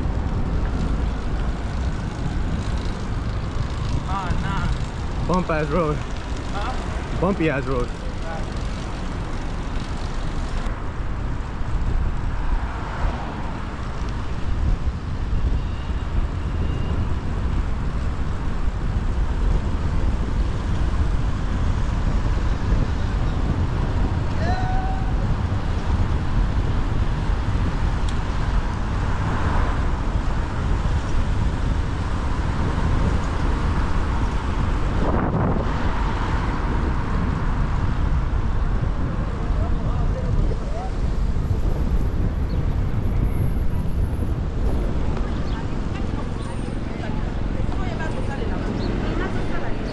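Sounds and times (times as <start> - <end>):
city traffic noise: 0.0 - 49.9
wind rushing over microphone: 0.0 - 49.9.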